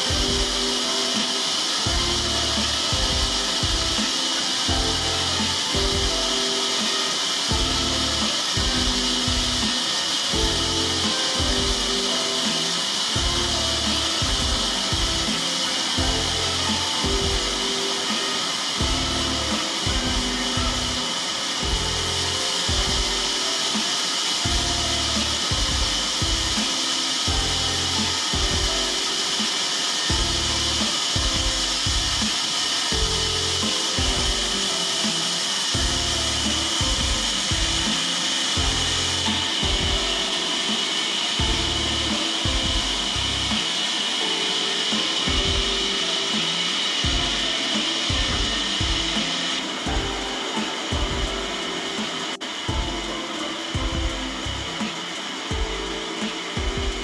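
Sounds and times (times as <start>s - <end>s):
saw blade cutting through log: 0.0s - 52.7s
background music with bass beat: 0.0s - 57.0s.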